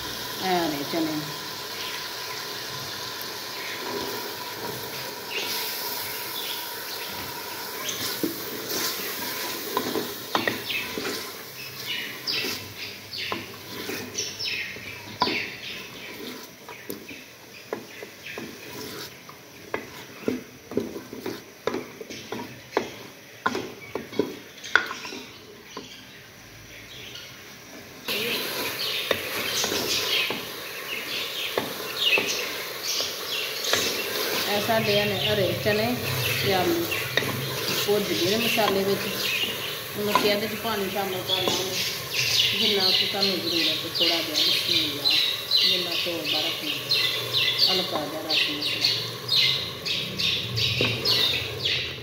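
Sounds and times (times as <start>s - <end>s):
masala sizzling: 0.0s - 52.0s
wooden spoon scraping pot: 3.5s - 26.0s, 28.1s - 49.8s.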